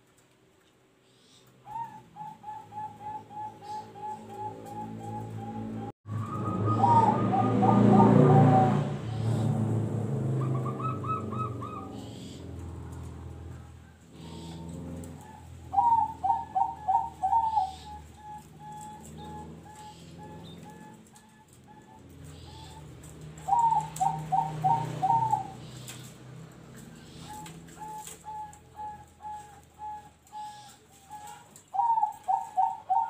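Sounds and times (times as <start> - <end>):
dove cooing: 1.5 - 33.0.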